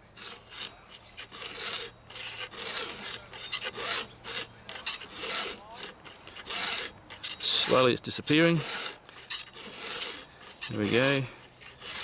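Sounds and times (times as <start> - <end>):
file rasping on saw chain: 0.2 - 12.0.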